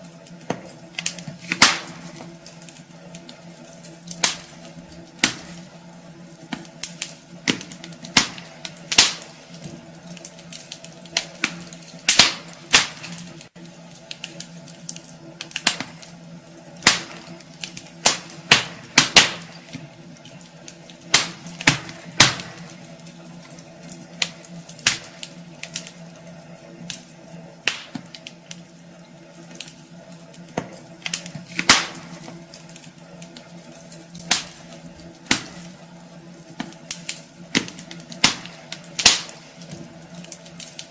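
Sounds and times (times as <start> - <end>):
faint steady hum: 0.0 - 40.9
wood fire crackling and popping: 0.0 - 40.9.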